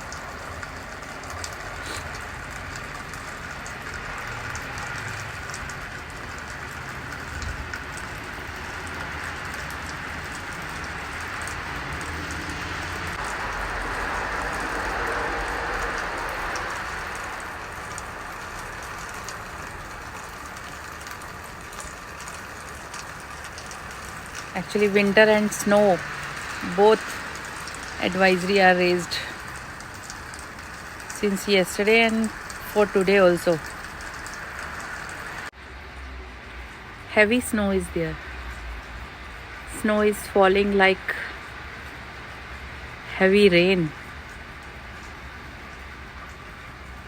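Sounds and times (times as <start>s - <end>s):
traffic hiss and rumble: 0.0s - 47.0s.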